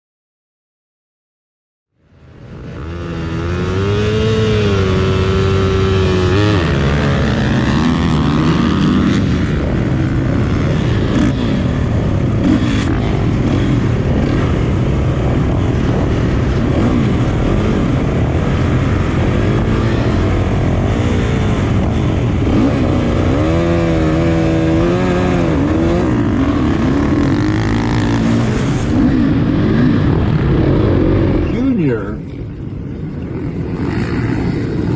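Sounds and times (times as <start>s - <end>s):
dense engine noise: 2.0s - 34.9s
dirt bike engine revving: 2.3s - 32.0s.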